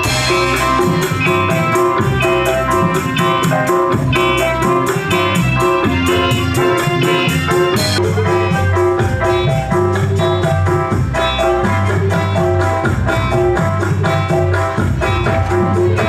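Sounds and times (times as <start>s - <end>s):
bass: 0.0s - 16.0s
organ-like keyboard melody: 0.0s - 16.0s
quick percussion beat: 0.0s - 16.0s.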